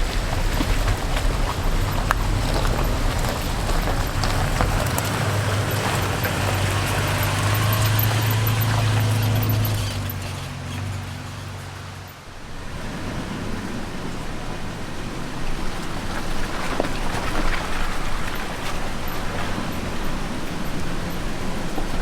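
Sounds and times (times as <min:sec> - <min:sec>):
low car engine: 0:00.0 - 0:22.0
tyres rushing on rocky trail: 0:00.0 - 0:22.0.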